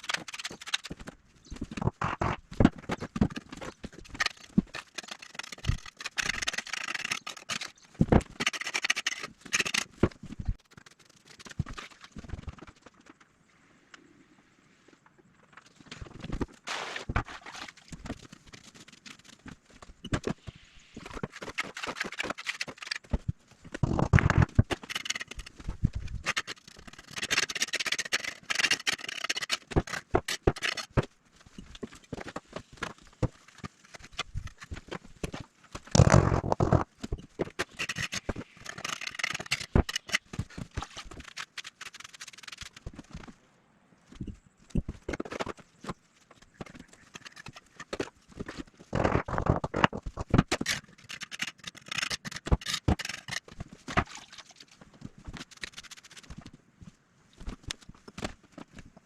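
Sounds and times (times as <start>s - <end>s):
taps knocks and scraping: 0.0s - 13.3s, 15.6s - 43.4s, 44.1s - 59.0s.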